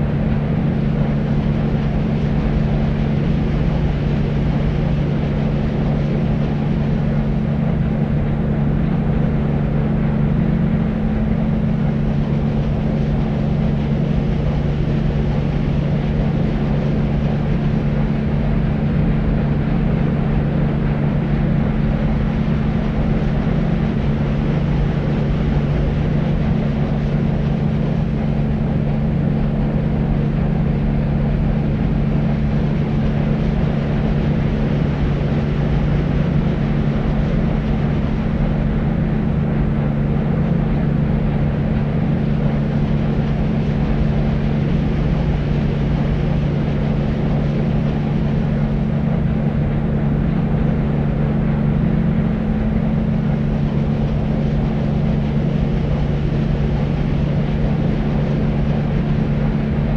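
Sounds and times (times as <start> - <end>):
deep white noise rushing: 0.0 - 59.9
low hum: 0.0 - 59.9.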